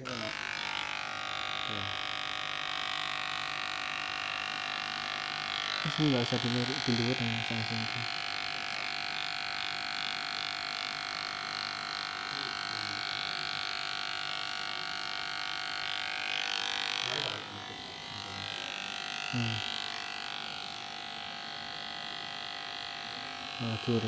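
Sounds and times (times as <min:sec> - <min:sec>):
electric hair clipper buzzing: 0:00.0 - 0:24.0.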